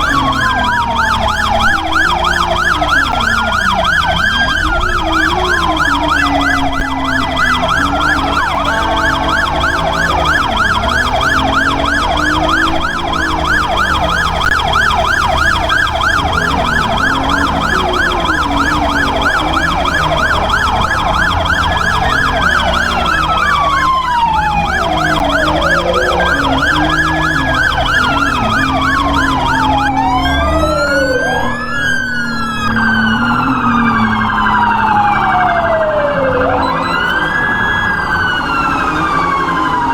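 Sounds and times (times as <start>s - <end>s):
low vehicle rumble: 0.0s - 39.9s
police siren: 0.0s - 39.9s.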